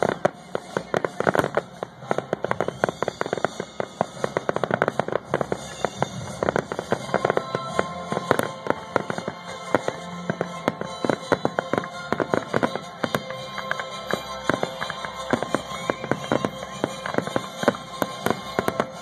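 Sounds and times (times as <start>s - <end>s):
fireworks shells banging: 0.0s - 19.0s.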